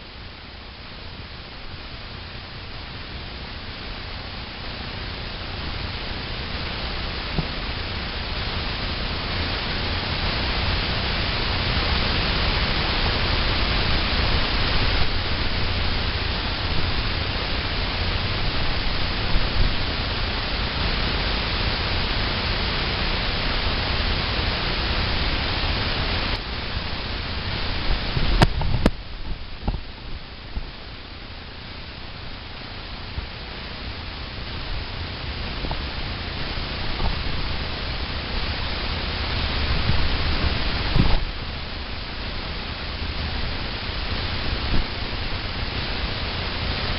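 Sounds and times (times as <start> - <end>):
rushing noise on microphone: 0.0 - 46.9.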